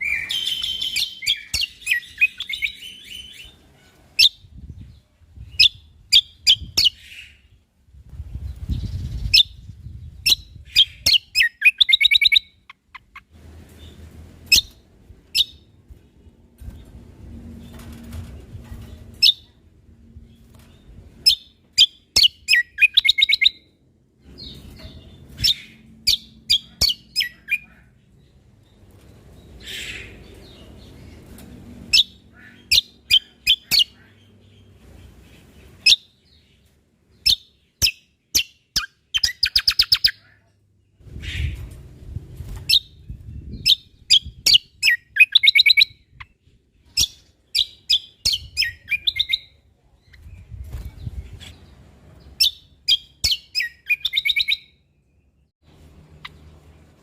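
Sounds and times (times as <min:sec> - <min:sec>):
songbird chirping and trilling: 0:00.0 - 0:16.9, 0:17.6 - 0:57.0.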